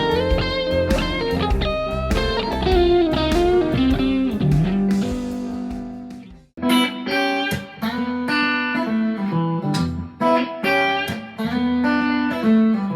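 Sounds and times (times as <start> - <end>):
electric guitar chords and notes: 0.0 - 12.9.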